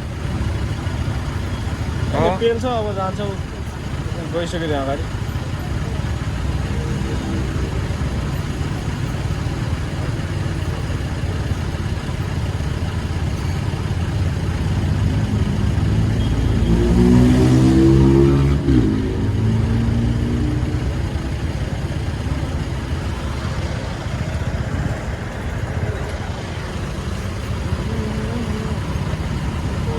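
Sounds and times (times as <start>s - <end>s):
motorcycle engine revving: 0.0s - 29.9s
road rumble: 0.0s - 29.9s.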